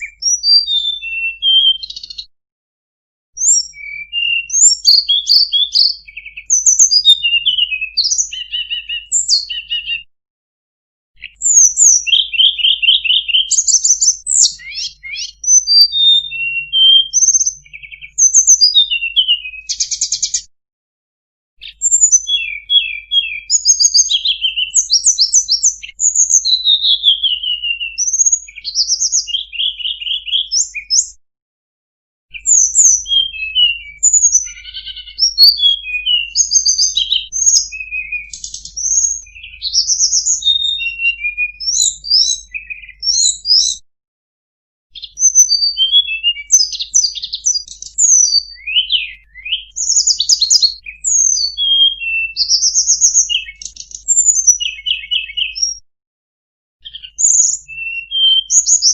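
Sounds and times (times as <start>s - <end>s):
songbird singing: 0.0s - 2.3s, 3.4s - 10.1s, 11.2s - 20.5s, 21.6s - 31.2s, 32.3s - 43.8s, 45.0s - 55.8s, 56.8s - 58.9s.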